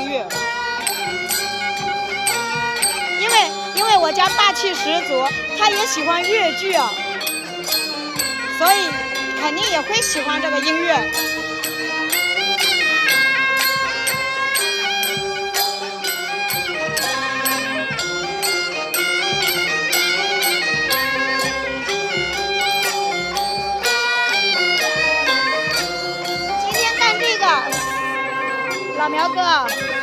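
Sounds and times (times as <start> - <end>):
reedy wind instrument melody: 0.0 - 30.0
steady percussion beat: 0.0 - 30.0.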